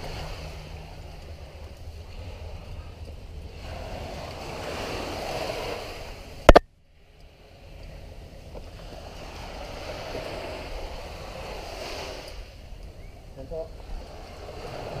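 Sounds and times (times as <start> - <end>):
surf rushing along a beach: 0.0 - 15.0.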